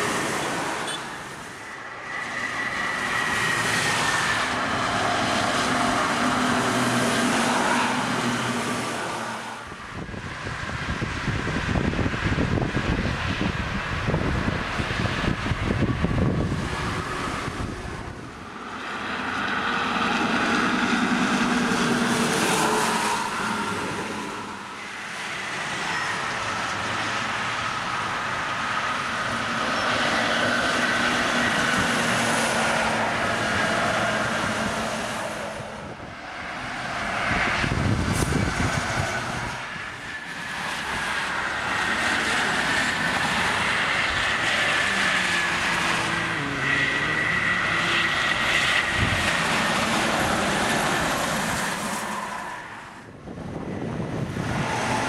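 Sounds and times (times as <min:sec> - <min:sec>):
vehicles passing on highway: 0:00.0 - 0:55.0.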